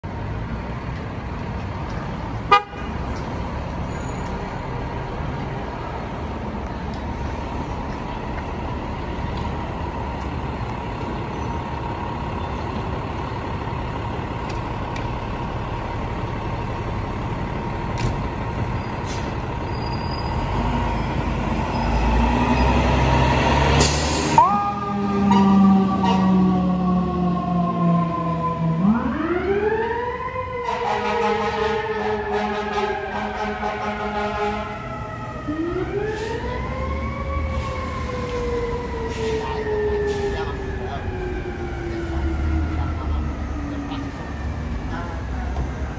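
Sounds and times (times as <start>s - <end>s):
fire engine running: 0.0s - 45.9s
street rumble: 0.0s - 45.9s.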